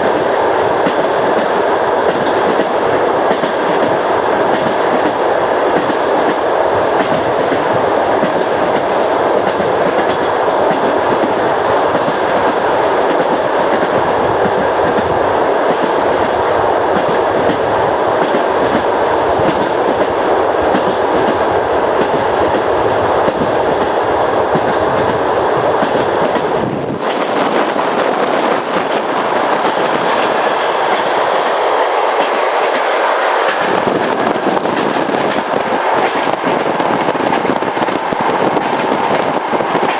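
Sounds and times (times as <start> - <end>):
rail joints clicking: 0.0 - 39.9
train wheels on rails: 0.0 - 39.9.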